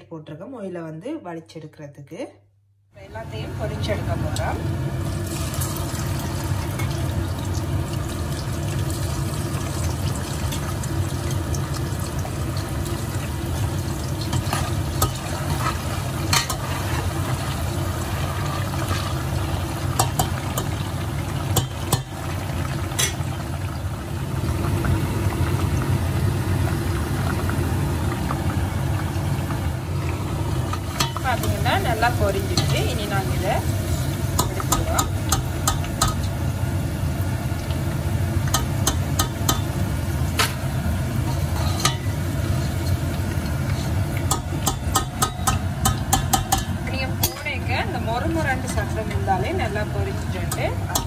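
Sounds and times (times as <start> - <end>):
food deep-frying in hot oil: 3.2 - 51.0.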